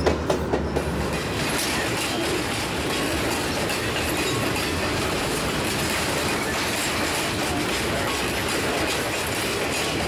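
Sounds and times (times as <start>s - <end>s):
freight train wheels rumbling and clattering: 0.0s - 10.0s.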